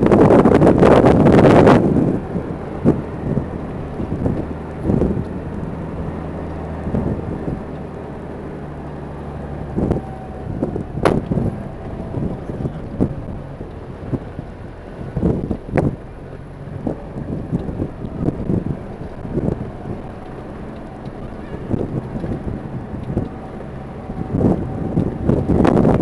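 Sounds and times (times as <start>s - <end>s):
car bumping and rattling: 0.0s - 26.0s
car engine hum: 0.0s - 26.0s
road rumble: 0.0s - 26.0s.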